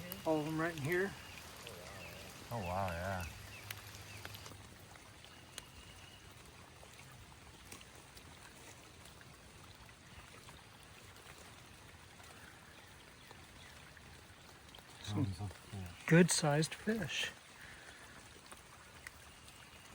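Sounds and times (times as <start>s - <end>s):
water trickling: 0.0s - 19.9s.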